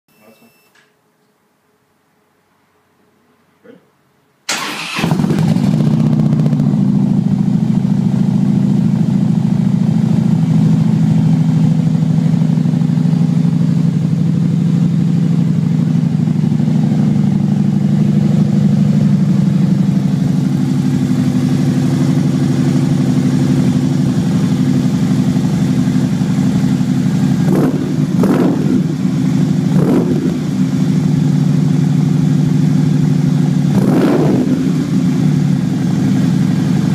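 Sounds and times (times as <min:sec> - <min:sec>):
motorcycle engine idling and revving: 0:04.9 - 0:36.9.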